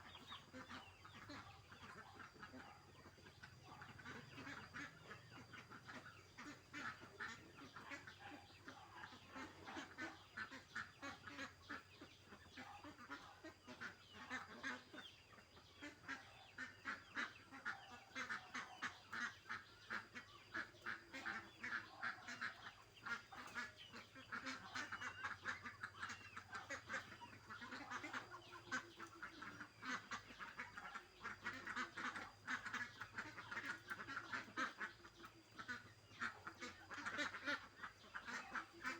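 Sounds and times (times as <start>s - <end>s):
poultry calling: 0.0s - 38.9s.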